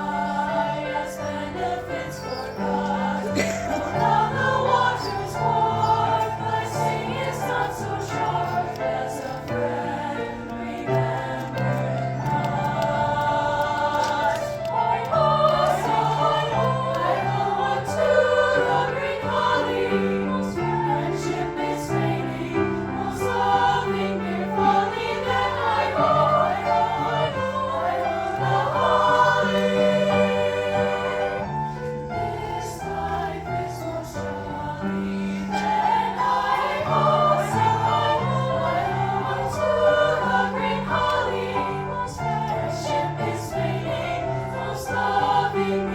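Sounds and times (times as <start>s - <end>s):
school choir singing in harmony: 0.0s - 45.9s.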